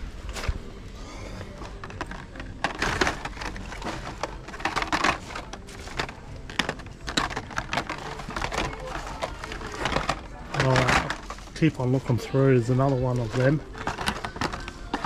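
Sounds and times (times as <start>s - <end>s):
plastic packages clicking and crackling: 0.3s - 15.0s.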